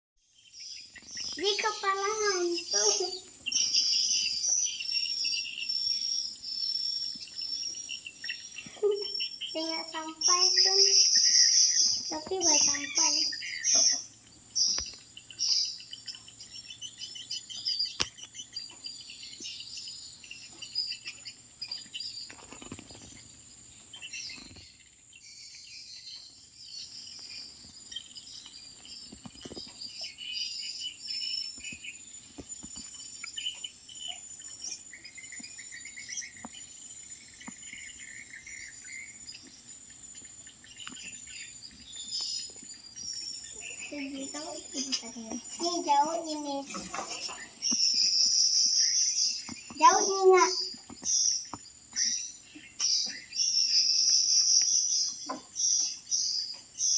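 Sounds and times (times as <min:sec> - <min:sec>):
birds chirping: 0:00.2 - 0:56.9
insects chirping: 0:00.2 - 0:56.9.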